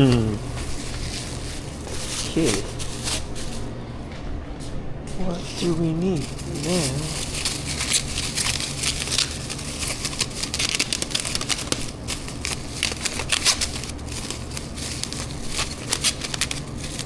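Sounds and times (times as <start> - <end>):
packaging crinkling: 0.0 - 4.4, 5.4 - 17.0
steady low hum: 0.0 - 17.0.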